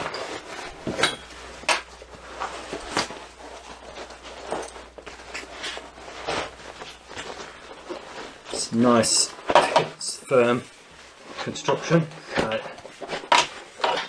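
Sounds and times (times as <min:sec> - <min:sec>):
fabric rustling and scuffing: 0:00.0 - 0:09.6, 0:10.3 - 0:13.9.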